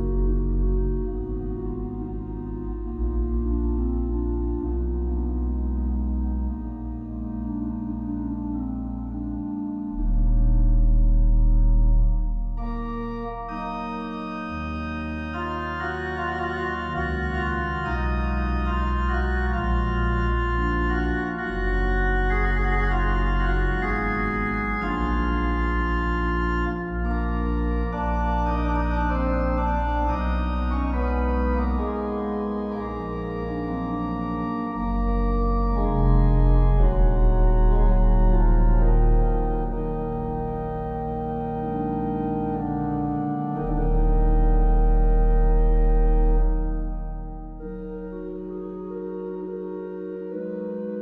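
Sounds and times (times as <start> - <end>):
organ playing slow chords: 0.0 - 51.0.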